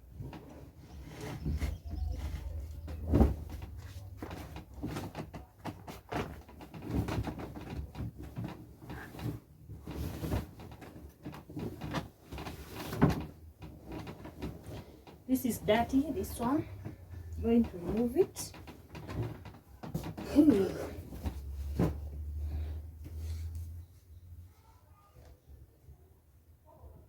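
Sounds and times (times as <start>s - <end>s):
knocks and bumps: 0.1s - 23.2s
sheets rustling: 0.6s - 23.8s.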